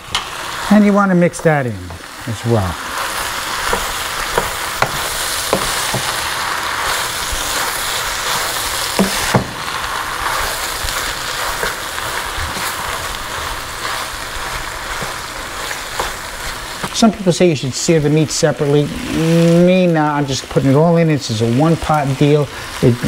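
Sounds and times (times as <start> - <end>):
meat and onions sizzling in pan: 0.0 - 23.0.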